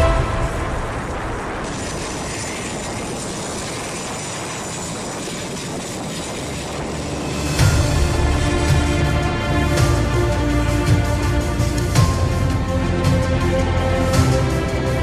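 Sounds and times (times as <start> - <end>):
jet engine rushing: 0.0 - 12.5.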